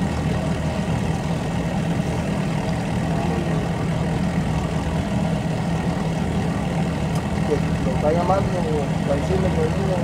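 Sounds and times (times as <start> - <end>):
outboard boat motor idling: 0.0 - 10.0.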